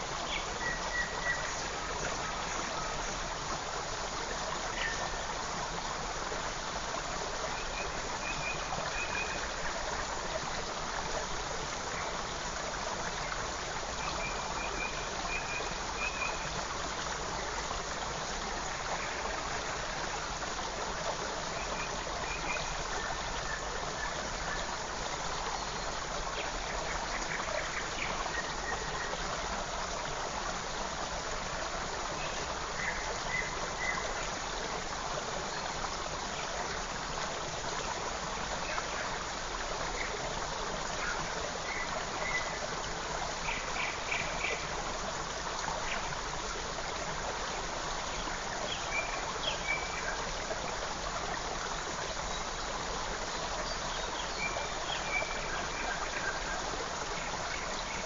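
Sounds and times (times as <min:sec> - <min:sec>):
forest stream running: 0:00.0 - 0:58.0.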